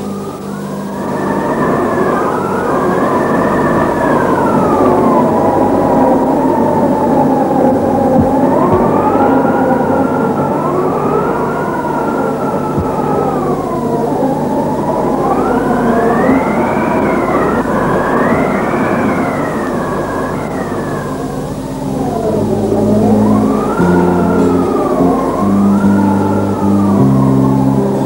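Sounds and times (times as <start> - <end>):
howling wind: 0.0 - 28.0.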